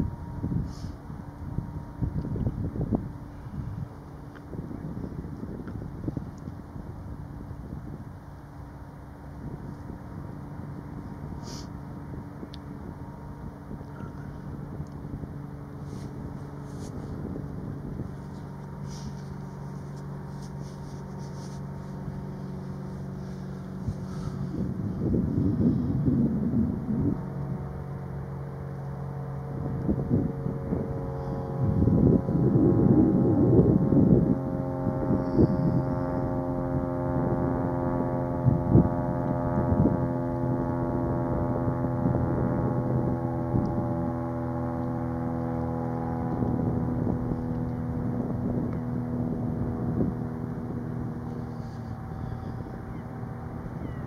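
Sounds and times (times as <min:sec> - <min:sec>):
distant diesel engine droning: 0:00.0 - 0:54.0
wind buffeting microphone: 0:00.0 - 0:54.0.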